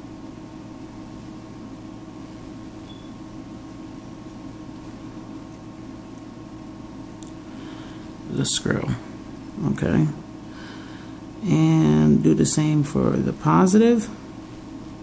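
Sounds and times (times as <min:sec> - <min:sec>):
low room hum with hiss: 0:00.0 - 0:15.0.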